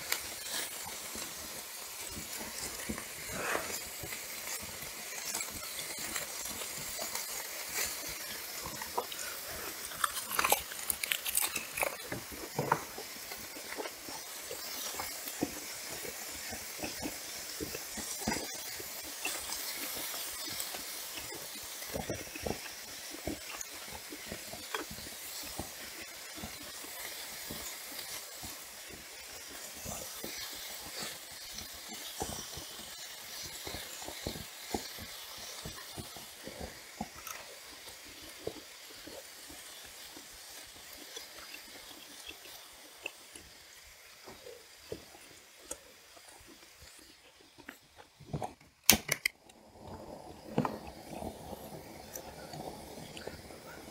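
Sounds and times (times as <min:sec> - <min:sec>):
steady sizzling hiss: 0:00.0 - 0:53.9
chewing and biting food: 0:00.4 - 0:49.0.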